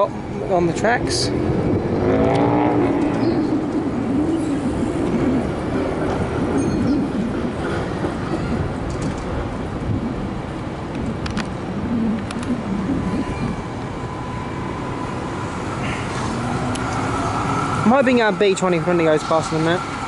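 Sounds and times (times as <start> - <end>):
tram rumbling on rails: 0.0 - 20.0.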